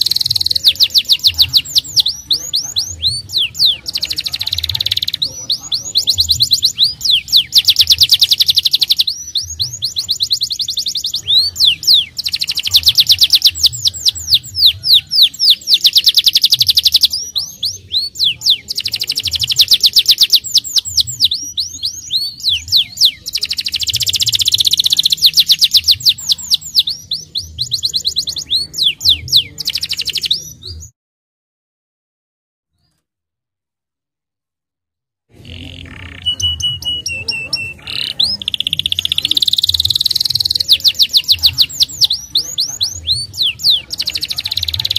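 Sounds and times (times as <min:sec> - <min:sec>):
canary singing trills: 0:00.0 - 0:30.9, 0:35.3 - 0:44.9.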